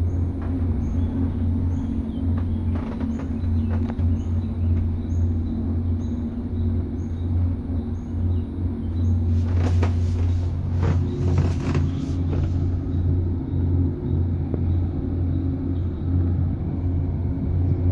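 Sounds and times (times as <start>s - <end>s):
cable car hum and rumble: 0.0s - 17.9s.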